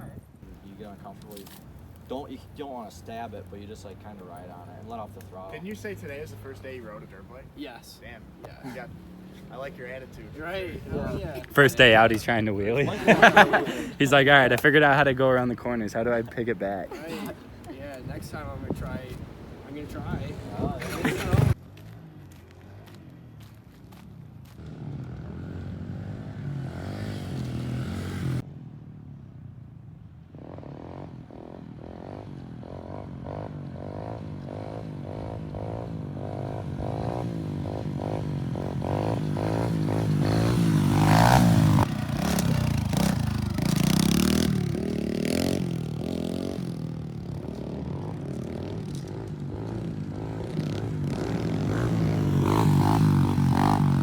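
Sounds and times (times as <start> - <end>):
pit bike engine revving: 0.4 - 17.4, 24.6 - 28.4, 30.4 - 54.0.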